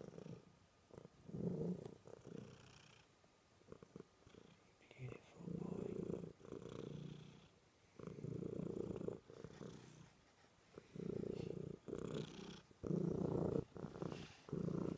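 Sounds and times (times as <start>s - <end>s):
cat purring: 0.0s - 14.9s.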